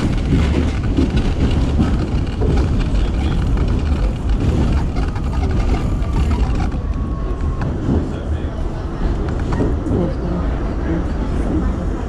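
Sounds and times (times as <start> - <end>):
subway train wheels rumbling on rails: 0.0 - 12.0.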